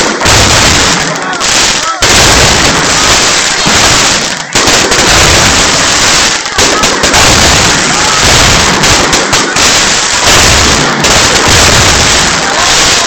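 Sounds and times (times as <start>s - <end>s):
firecrackers and fireworks barrage: 0.0s - 13.0s.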